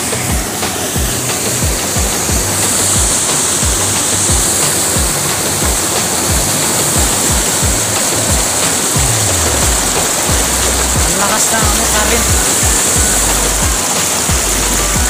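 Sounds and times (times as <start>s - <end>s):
background music with low beat: 0.0s - 15.0s
waterfall rushing: 0.0s - 15.0s.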